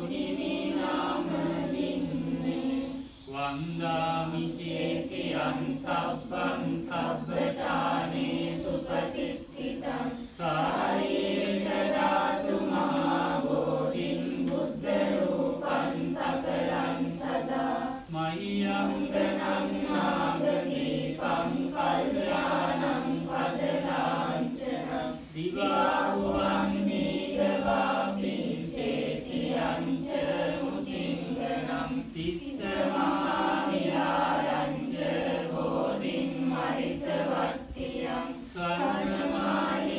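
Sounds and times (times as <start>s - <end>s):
group chanting in unison: 0.0s - 39.9s.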